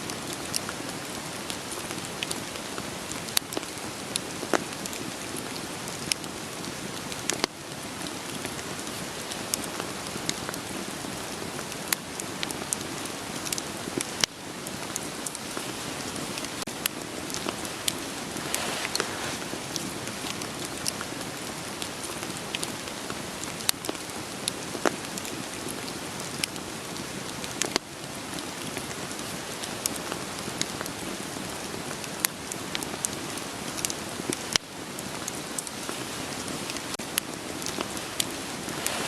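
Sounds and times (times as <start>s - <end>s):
rain falling: 0.0s - 39.0s
wood fire crackling: 0.0s - 39.0s.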